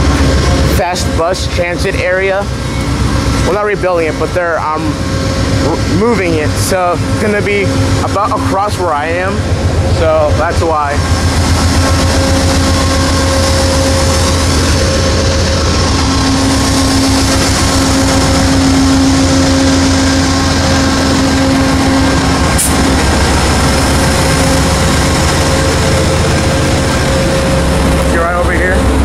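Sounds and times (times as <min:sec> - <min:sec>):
diesel locomotive engine idling: 0:00.0 - 0:29.0.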